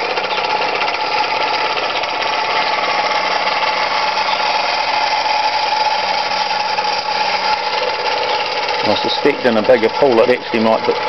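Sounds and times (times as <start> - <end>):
model steam engine running: 0.0 - 11.0.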